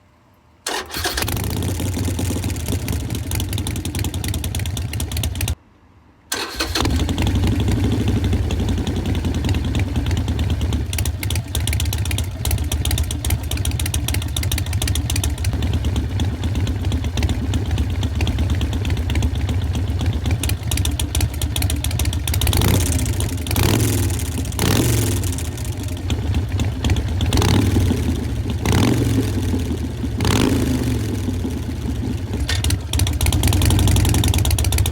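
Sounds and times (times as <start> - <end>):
motorcycle engine idling and revving: 0.7 - 5.6, 6.3 - 34.9.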